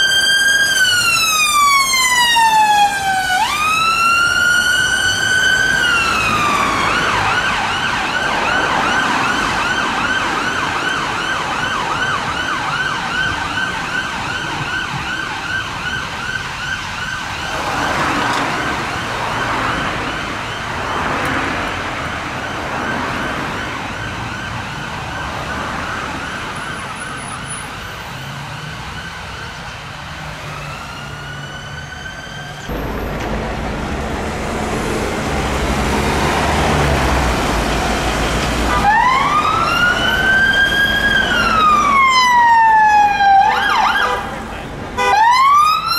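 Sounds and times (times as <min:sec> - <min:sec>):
ambulance siren wailing and yelping: 0:00.0 - 0:32.7, 0:36.2 - 0:45.9
road traffic: 0:00.0 - 0:45.9.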